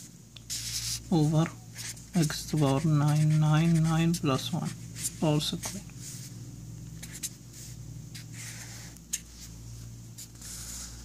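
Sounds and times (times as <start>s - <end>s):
marker pen scratching on paper: 0.0s - 6.3s, 7.0s - 9.6s, 10.2s - 11.0s
steady low hum: 0.0s - 11.0s.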